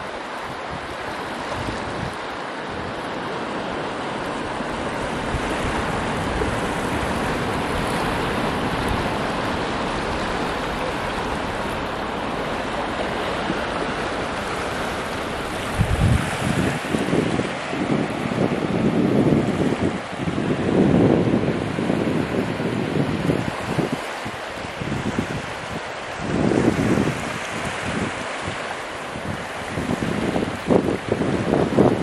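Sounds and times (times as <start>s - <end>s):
surf washing onto beach: 0.0s - 32.0s
wind buffeting microphone: 0.0s - 32.0s.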